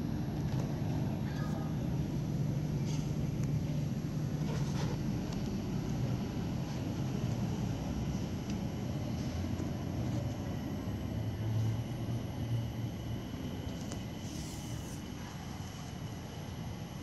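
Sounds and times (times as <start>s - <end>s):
low rumble of vehicles and machinery: 0.0s - 17.0s.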